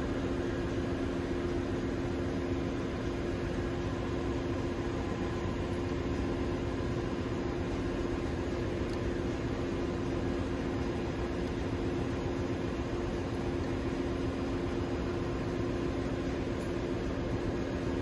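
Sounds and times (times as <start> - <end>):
engine-room machinery drone: 0.0 - 18.0.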